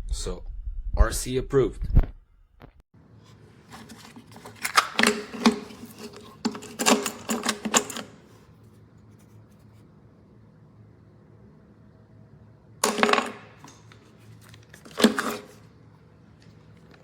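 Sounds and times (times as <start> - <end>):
faint room hum: 3.0 - 17.0.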